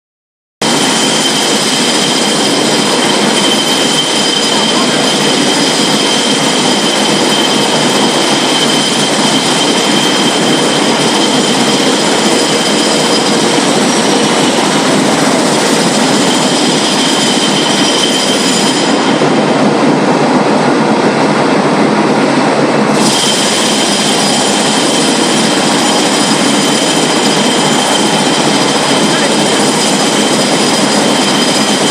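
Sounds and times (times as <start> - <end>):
high whining tones: 0.6 - 31.9
lathe mechanical noise: 0.6 - 31.9.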